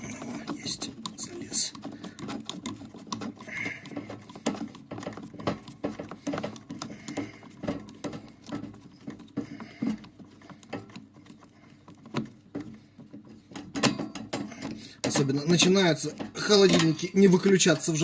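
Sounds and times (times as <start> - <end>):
tools tapping plastic parts: 0.0 - 18.0.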